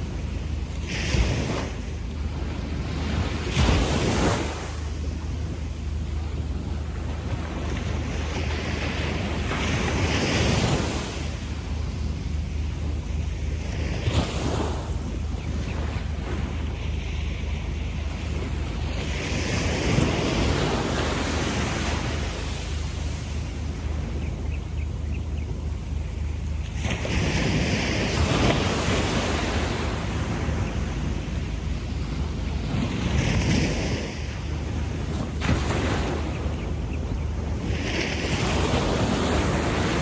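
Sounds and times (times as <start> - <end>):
low rumble of surf: 0.0 - 40.0
waves washing on sandy beach: 0.0 - 40.0.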